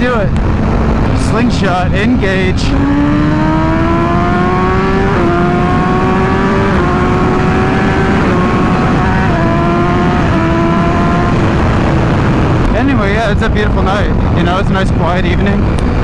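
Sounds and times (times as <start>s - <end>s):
motorcycle engine accelerating: 0.0s - 14.3s
wind noise: 0.0s - 16.0s.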